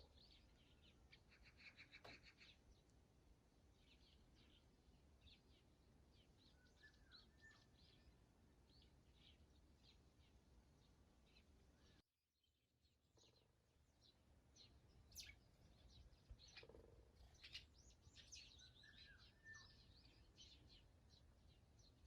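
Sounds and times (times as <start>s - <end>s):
small birds chirping: 0.0s - 12.0s, 12.8s - 22.0s.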